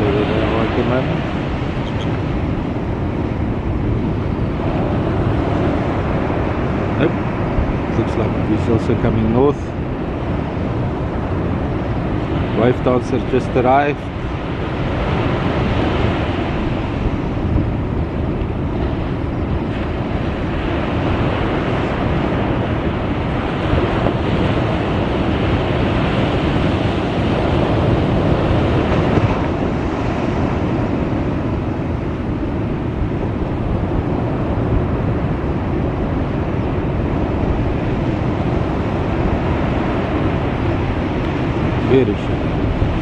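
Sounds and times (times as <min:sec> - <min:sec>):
ocean surf breaking: 0:00.0 - 0:43.0
wind buffeting microphone: 0:00.0 - 0:43.0.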